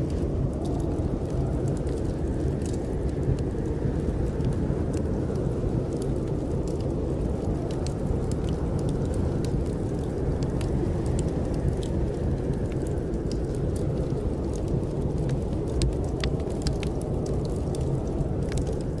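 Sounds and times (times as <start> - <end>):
wind roaring: 0.0 - 19.0
wood fire crackling: 0.0 - 19.0.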